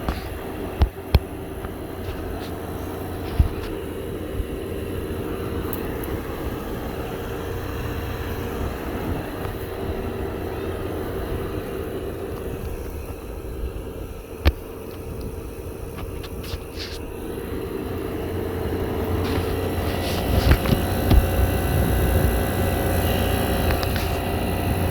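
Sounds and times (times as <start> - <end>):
air conditioner drone: 0.0 - 24.9.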